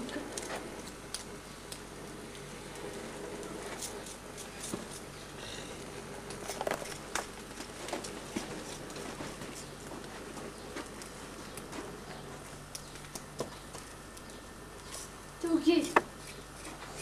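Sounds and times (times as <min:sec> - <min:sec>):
clicks and crackles: 0:00.0 - 0:05.1, 0:05.8 - 0:15.2
gas burner hissing: 0:00.0 - 0:17.0.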